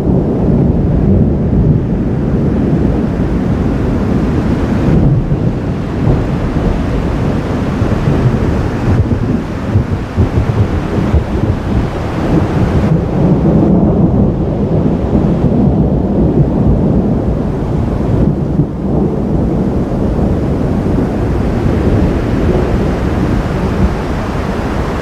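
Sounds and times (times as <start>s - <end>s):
rolling thunder: 0.0s - 25.0s.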